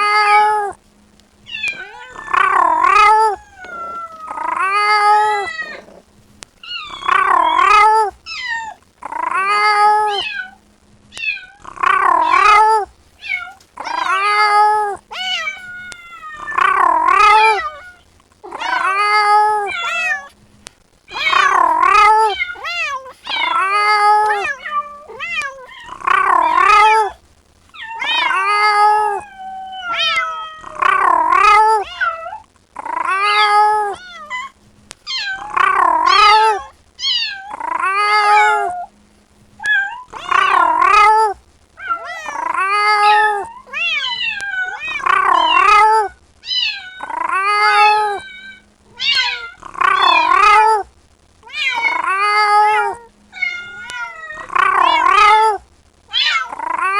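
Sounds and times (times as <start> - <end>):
kitten meowing: 1.5 - 6.0, 6.6 - 10.6, 11.2 - 20.4, 21.1 - 56.9.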